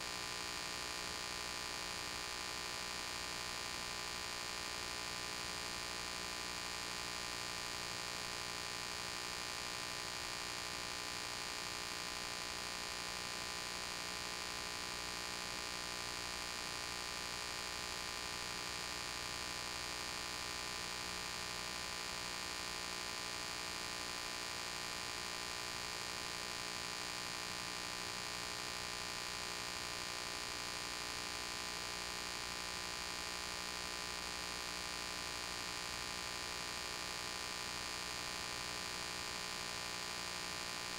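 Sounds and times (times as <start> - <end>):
electrical hum with hiss: 0.0 - 40.9.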